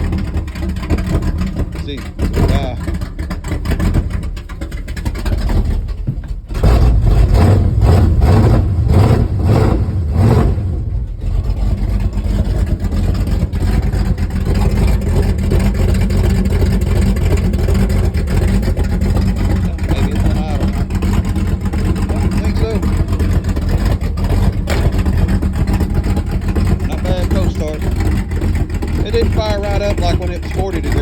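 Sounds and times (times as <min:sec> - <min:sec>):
car engine surging then idling: 0:00.0 - 0:31.0.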